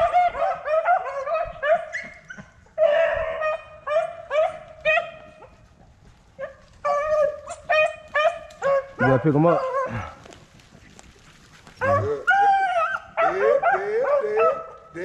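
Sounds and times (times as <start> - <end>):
beagles baying: 0.0 - 15.0.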